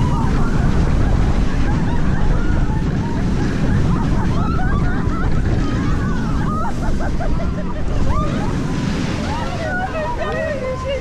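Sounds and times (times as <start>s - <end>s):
riders shouting and whooping: 0.0s - 11.0s
roller coaster train rumbling: 0.0s - 11.0s
wind buffeting microphone: 0.0s - 11.0s.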